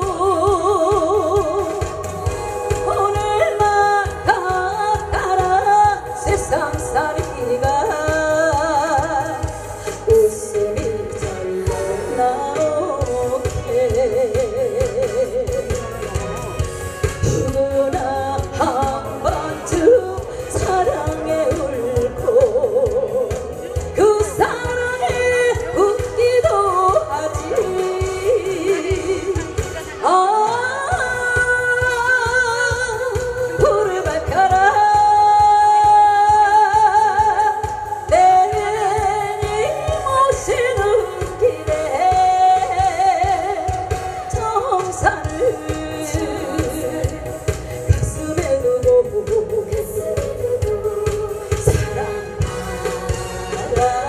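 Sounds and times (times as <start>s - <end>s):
pop music accompaniment with beat: 0.0s - 54.0s
woman singing into microphone: 0.0s - 54.0s.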